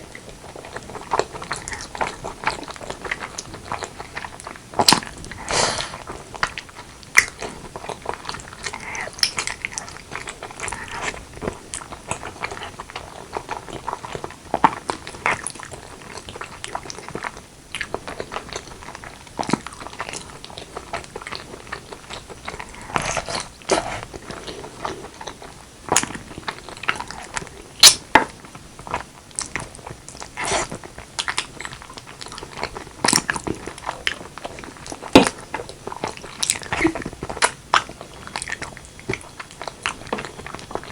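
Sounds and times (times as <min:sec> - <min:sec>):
wet chewing and smacking: 0:00.0 - 0:40.9
food crunching: 0:00.1 - 0:40.9.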